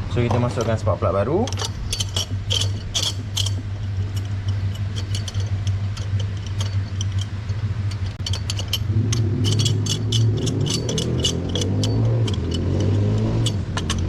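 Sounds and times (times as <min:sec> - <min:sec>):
engine hum: 0:00.0 - 0:14.0
hand tools clicking and clinking: 0:00.2 - 0:14.0.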